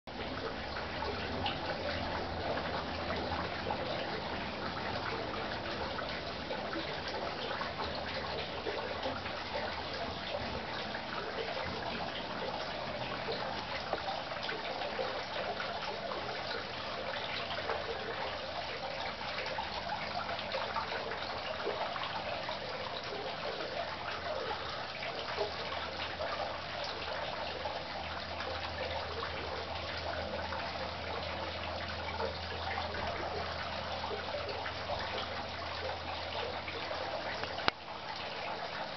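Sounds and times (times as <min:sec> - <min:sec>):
running water trickling: 0:00.1 - 0:38.9.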